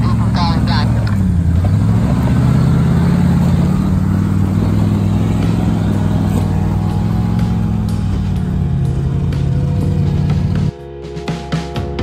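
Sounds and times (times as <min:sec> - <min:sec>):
car engine droning while driving: 0:00.0 - 0:10.7.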